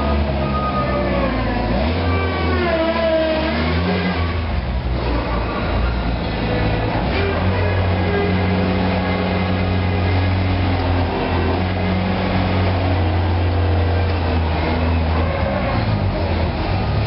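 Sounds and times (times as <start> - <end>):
forklift humming and whining: 0.0 - 17.0.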